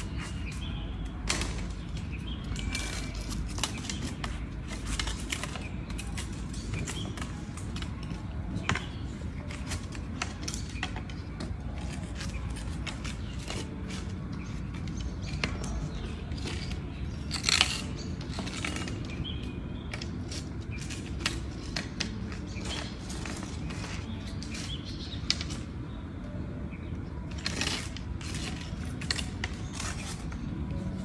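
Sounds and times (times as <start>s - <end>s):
wooden stick scraping on brick: 0.0s - 25.6s.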